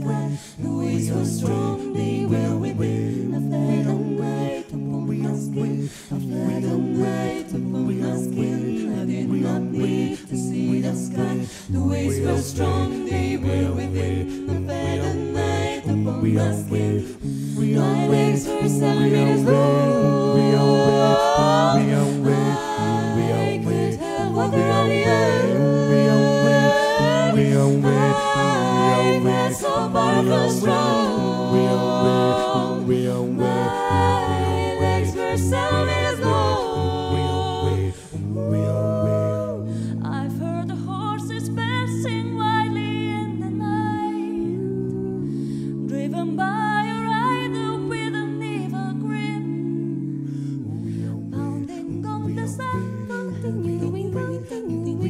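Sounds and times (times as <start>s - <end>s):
a cappella group singing harmony: 0.0s - 55.0s.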